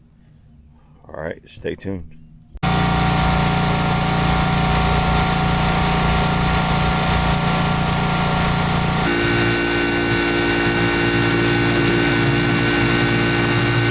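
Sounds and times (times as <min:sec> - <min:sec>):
stump grinder engine running: 0:02.6 - 0:13.9.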